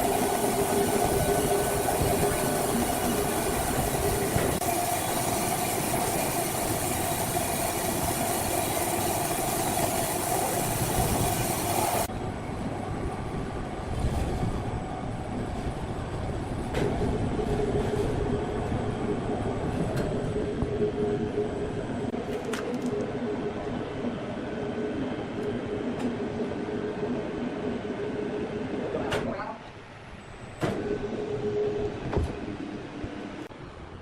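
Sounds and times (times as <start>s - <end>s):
sawmill machinery running: 0.0s - 29.0s
machine whine: 0.0s - 33.5s.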